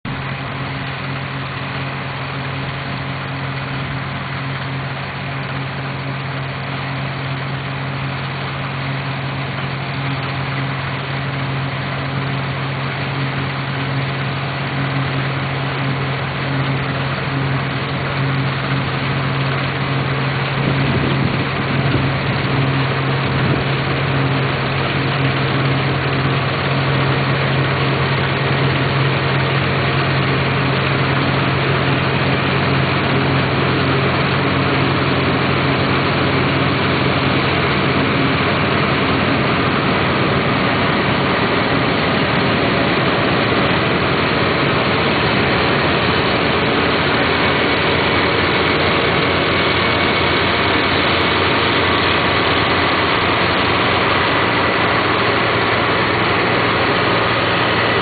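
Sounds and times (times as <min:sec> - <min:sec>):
combine harvester engine hum: 0:00.0 - 0:58.0
threshing machinery rattle: 0:00.1 - 0:58.0.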